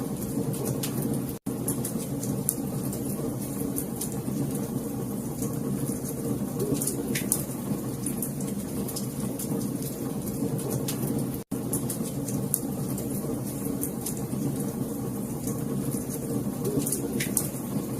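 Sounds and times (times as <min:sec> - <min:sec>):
low rumble of flames: 0:00.0 - 0:17.9
wood fire crackling: 0:00.0 - 0:17.9.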